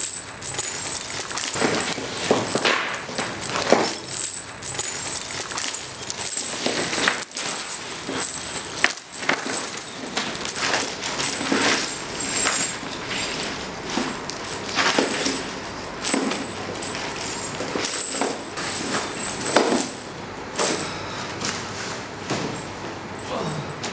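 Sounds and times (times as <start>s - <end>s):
metal chains clinking and rattling: 0.0s - 21.9s.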